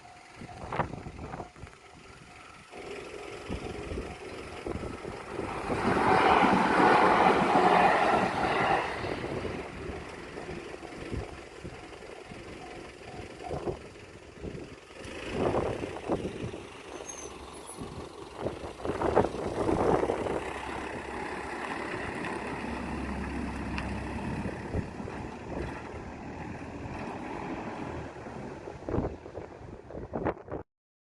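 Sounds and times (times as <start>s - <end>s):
vehicles passing: 0.0s - 30.6s.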